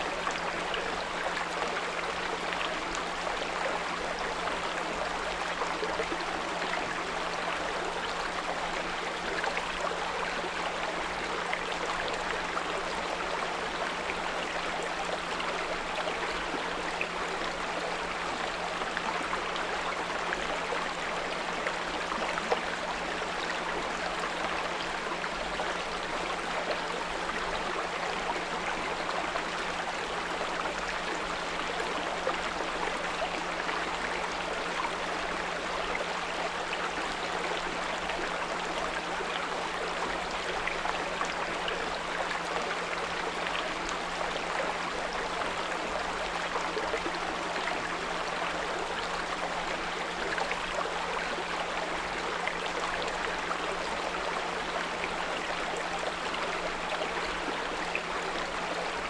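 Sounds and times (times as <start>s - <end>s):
brook babbling: 0.0s - 59.0s.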